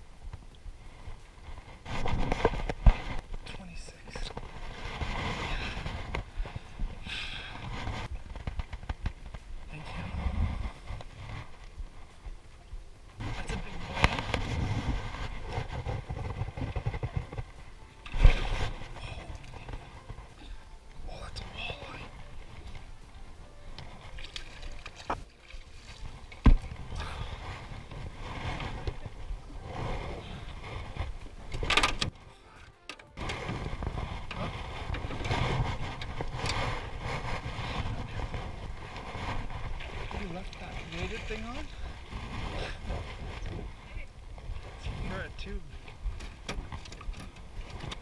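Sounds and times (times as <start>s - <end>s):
water noise: 0.0s - 48.0s
wind: 0.0s - 48.0s
knocking and rustling in a boat: 0.2s - 48.0s.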